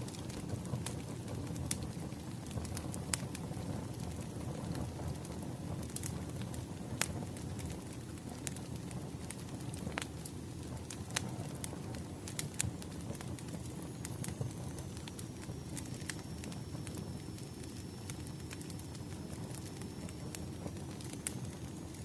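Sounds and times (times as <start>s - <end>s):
logs crackling and popping: 0.0s - 22.0s
wood fire low rumble: 0.0s - 22.0s.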